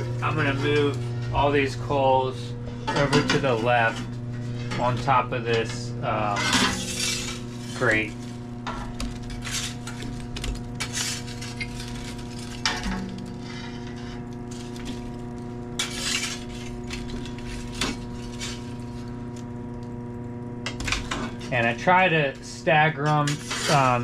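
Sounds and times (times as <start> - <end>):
metal rake scraping oven floor: 0.0 - 19.3, 20.7 - 24.0.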